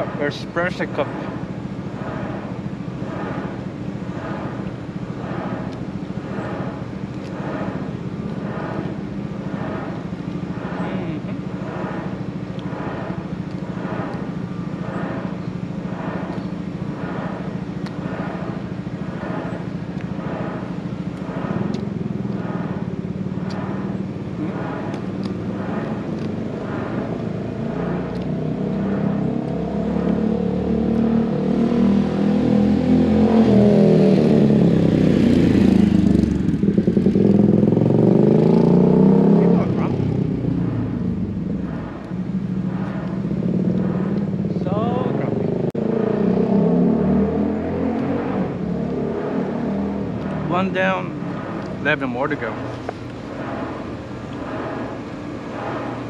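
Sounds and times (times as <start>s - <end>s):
engine rising in pitch: 0.0s - 56.0s
motor droning with pulse: 0.0s - 56.0s.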